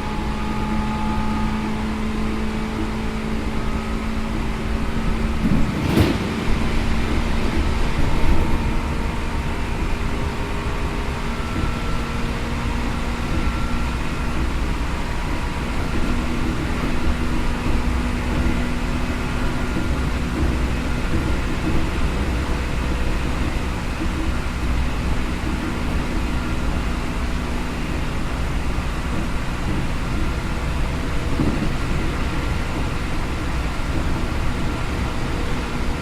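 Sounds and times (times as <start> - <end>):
traction motor hum: 0.0 - 36.0
train wheels rumbling on rails: 0.0 - 36.0.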